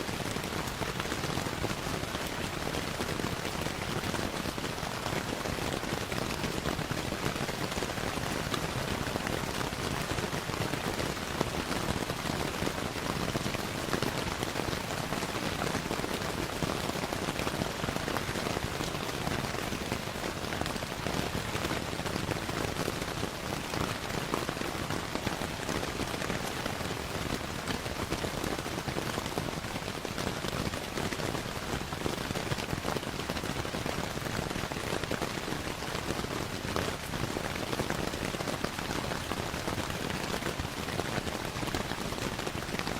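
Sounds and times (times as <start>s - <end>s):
steady rainfall: 0.0s - 42.9s.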